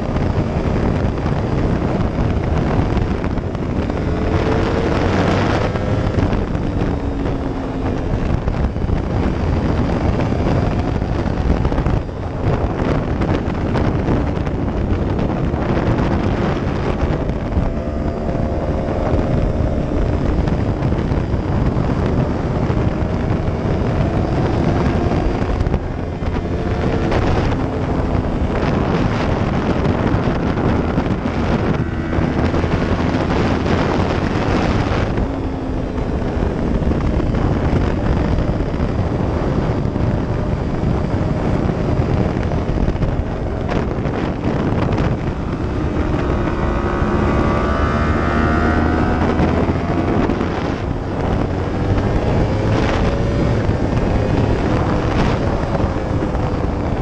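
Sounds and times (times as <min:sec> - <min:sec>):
motorcycle engine revving: 0:00.0 - 0:57.0
wind rush on microphone: 0:00.0 - 0:57.0.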